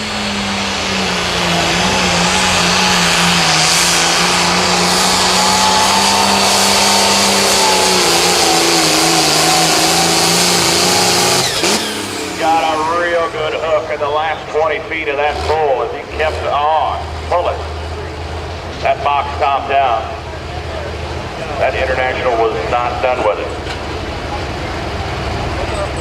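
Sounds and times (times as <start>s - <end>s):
tractor diesel engine at full throttle: 0.0s - 26.0s.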